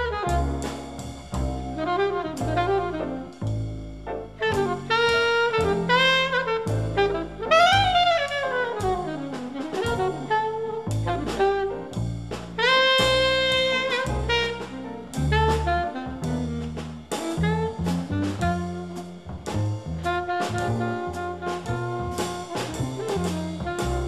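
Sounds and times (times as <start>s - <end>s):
saxophone melody: 0.0s - 0.8s, 1.4s - 3.6s, 4.4s - 19.2s, 20.0s - 24.0s
jazz band playing: 0.0s - 24.0s.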